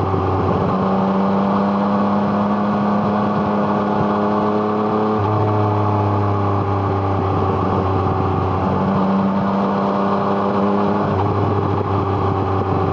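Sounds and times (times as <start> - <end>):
motorcycle engine running: 2.2 - 12.9.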